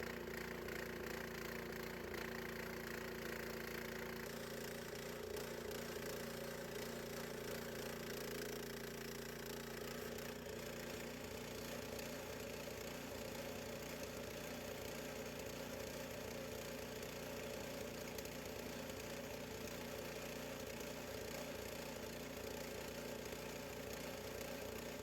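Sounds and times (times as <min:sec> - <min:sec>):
gas engine running: 0:00.0 - 0:25.0.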